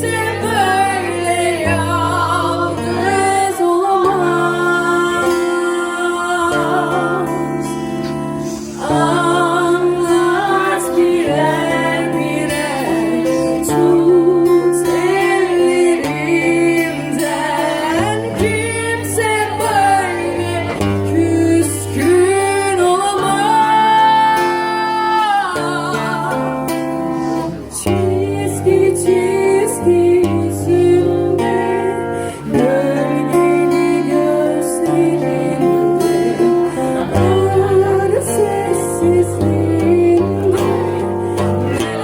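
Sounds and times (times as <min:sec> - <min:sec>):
acoustic guitar: 0:00.0 - 0:42.0
woman singing: 0:00.0 - 0:42.0.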